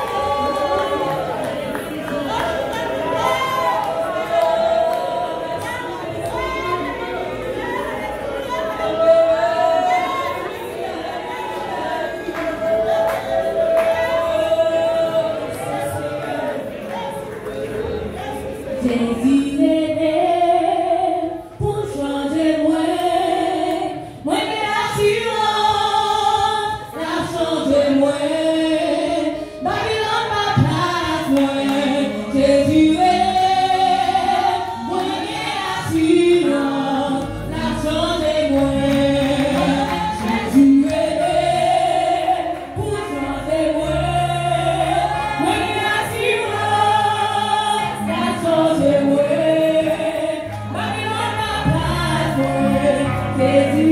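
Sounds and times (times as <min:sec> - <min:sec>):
women singing gospel song: 0:00.0 - 0:53.9.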